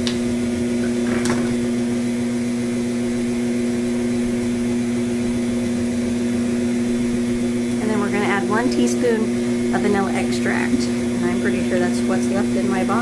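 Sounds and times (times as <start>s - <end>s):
stand mixer motor humming: 0.0s - 13.0s.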